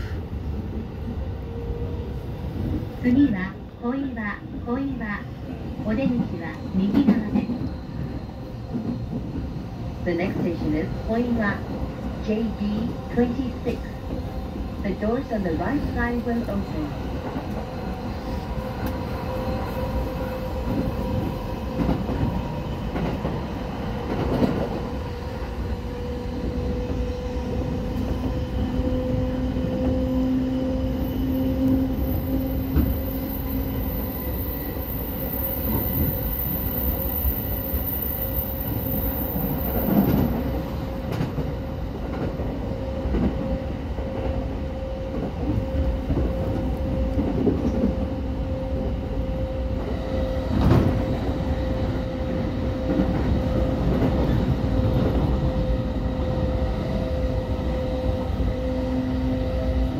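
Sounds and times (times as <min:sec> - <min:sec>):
train wheels rumbling on rails: 0:04.2 - 0:59.9.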